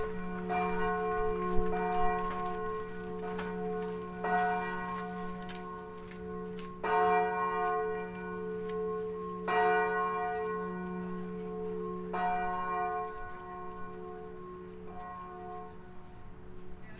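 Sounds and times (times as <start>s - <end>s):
church bell ringing: 0.0s - 16.8s.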